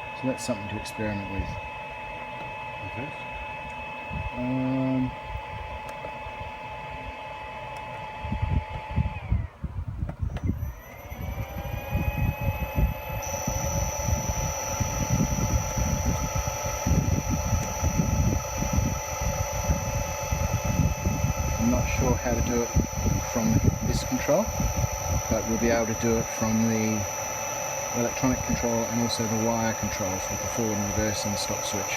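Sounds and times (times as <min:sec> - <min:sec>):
electric motor whine: 0:00.0 - 0:31.9.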